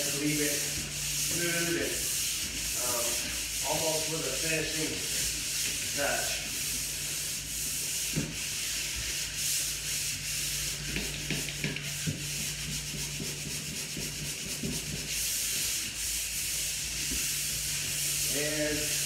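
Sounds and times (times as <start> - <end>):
sandpaper rubbing on drywall: 0.0 - 19.0.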